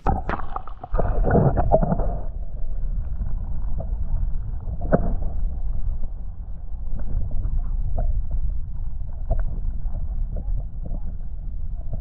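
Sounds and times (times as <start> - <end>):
muffled underwater rumble: 0.0 - 12.0.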